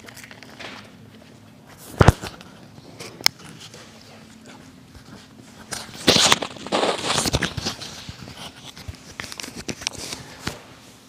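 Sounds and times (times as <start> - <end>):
handling noise rustling and crackling: 0.0 - 10.8.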